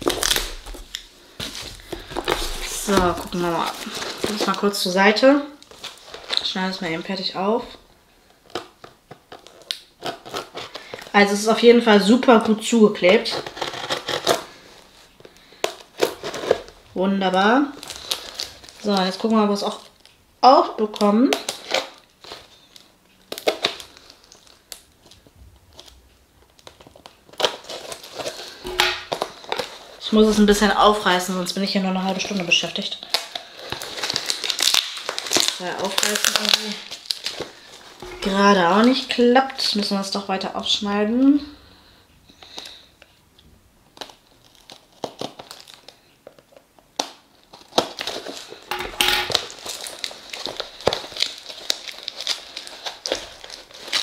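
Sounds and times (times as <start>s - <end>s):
cardboard and tape crinkling: 0.0s - 40.0s, 43.9s - 54.0s.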